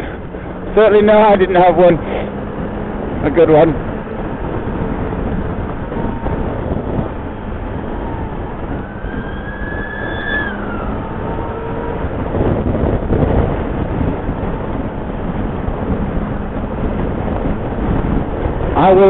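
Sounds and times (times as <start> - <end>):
faint whine: 0.0 - 19.0
motorcycle running: 0.0 - 19.0
wind and road noise: 0.0 - 19.0.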